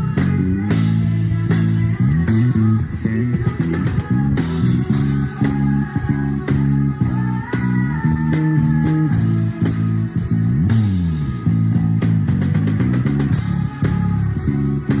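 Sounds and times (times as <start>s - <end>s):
electric bass guitar: 0.0s - 15.0s
live band music: 0.0s - 15.0s.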